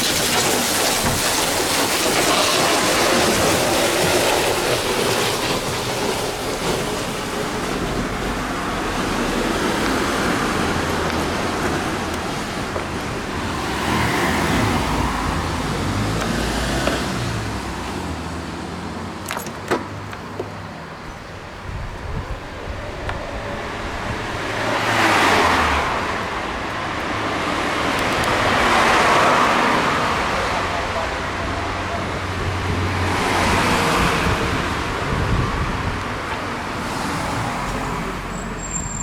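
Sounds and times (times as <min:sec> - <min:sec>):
road vehicles passing: 0:00.0 - 0:39.0.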